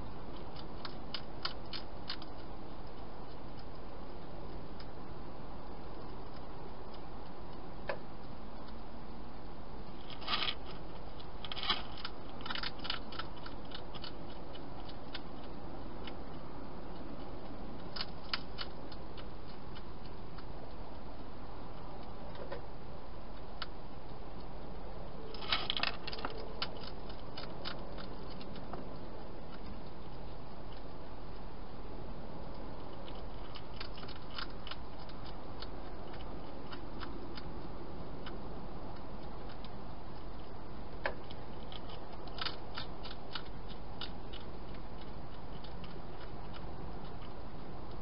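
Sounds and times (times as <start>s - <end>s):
hedgehog crunching dry food: 0.0s - 48.0s.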